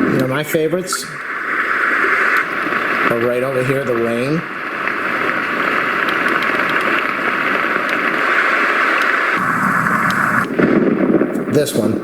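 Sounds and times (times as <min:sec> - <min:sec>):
white noise machine rain hiss: 0:00.0 - 0:10.7.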